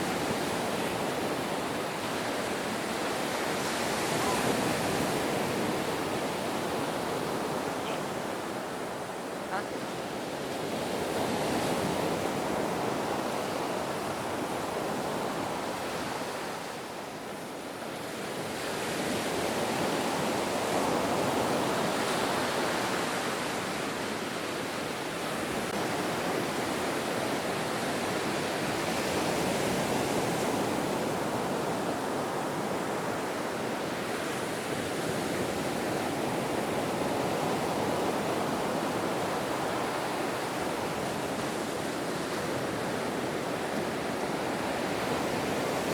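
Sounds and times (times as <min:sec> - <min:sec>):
ocean waves breaking: 0:00.0 - 0:17.0, 0:18.0 - 0:45.9.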